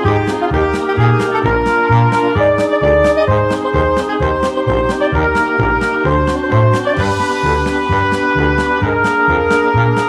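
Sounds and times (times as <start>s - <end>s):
upbeat jazzy music: 0.0s - 10.0s.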